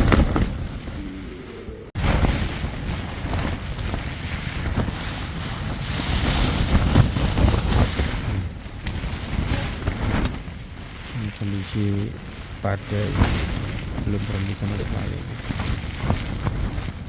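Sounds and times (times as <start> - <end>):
storm wind gusting: 0.0 - 17.0
wind buffeting microphone: 0.0 - 17.0.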